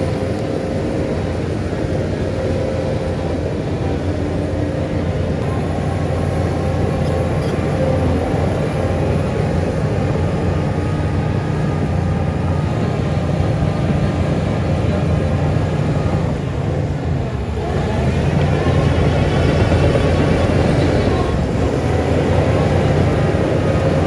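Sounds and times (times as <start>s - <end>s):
heavy diesel engine under load: 0.0s - 24.0s.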